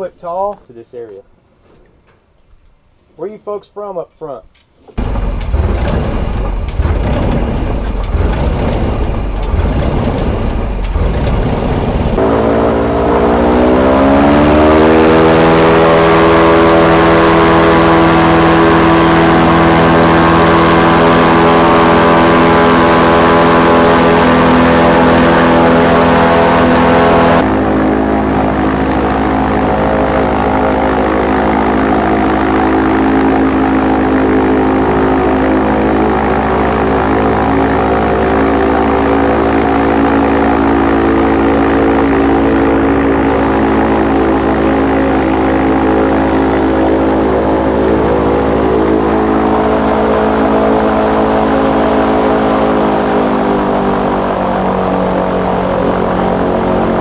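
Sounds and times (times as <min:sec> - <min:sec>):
airboat engine drone: 0:05.0 - 0:57.0.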